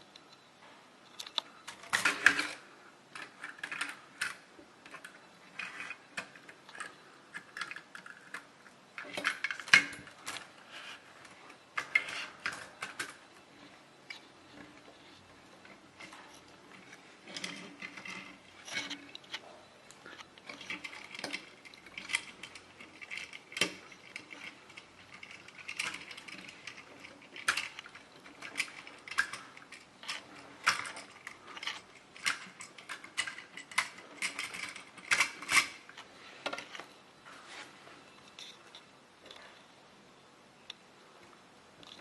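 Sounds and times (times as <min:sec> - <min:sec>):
plastic toy vehicles clattering: 0:01.1 - 0:37.0.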